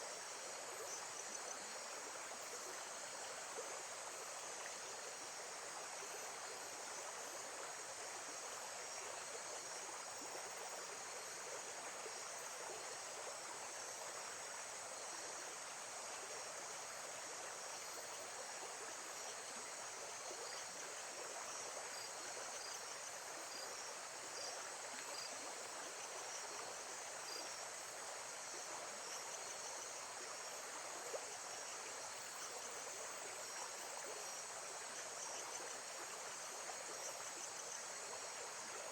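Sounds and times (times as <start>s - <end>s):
faint insect chirps: 0.0s - 38.9s.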